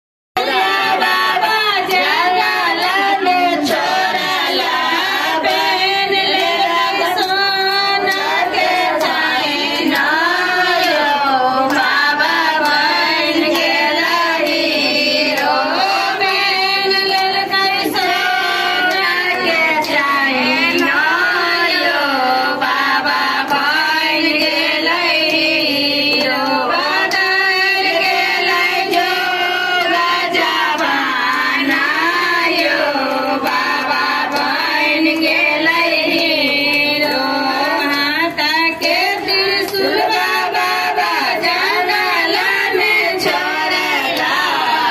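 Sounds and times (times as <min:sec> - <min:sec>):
women singing a folk song: 0:00.4 - 0:44.9.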